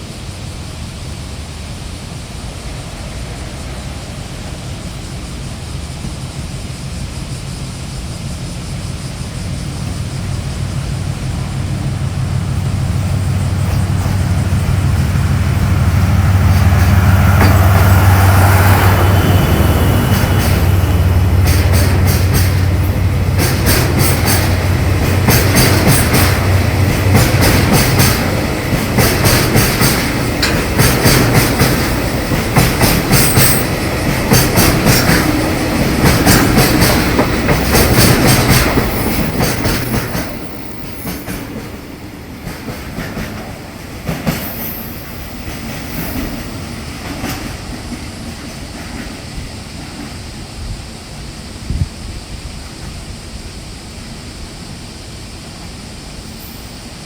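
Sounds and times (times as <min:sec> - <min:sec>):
locomotive drone: 0:00.0 - 0:57.0
train wheels clicking over rail joints: 0:02.3 - 0:51.0.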